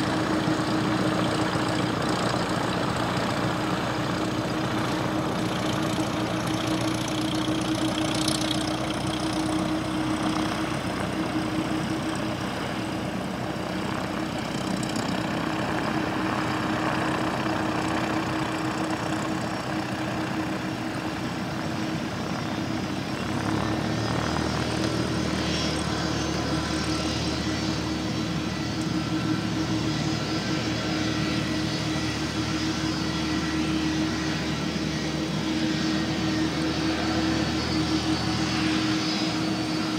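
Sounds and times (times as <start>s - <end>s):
jet airliner engine drone: 0.0s - 39.9s.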